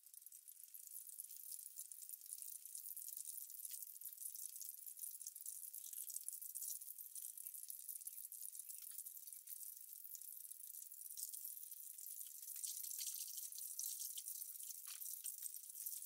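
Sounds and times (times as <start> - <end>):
fish deep-frying in oil: 0.0 - 16.0.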